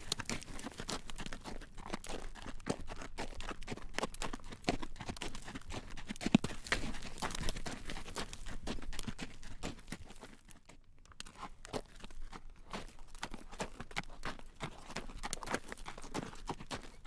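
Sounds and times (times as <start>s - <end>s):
horse hooves clacking on road: 0.0s - 10.6s, 11.2s - 17.0s.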